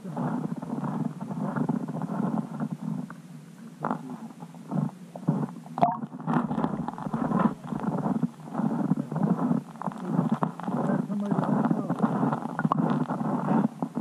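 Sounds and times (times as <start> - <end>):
muffled underwater rumbling: 0.0 - 14.0.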